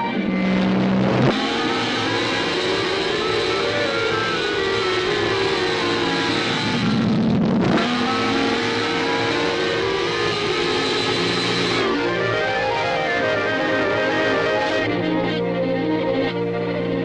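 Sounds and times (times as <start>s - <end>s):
reversed orchestral music: 0.0s - 17.0s.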